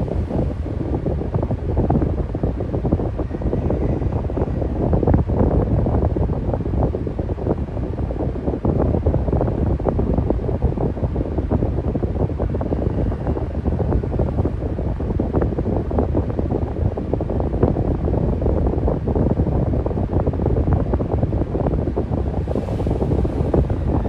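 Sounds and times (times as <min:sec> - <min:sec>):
electric fan running: 0:00.0 - 0:24.0.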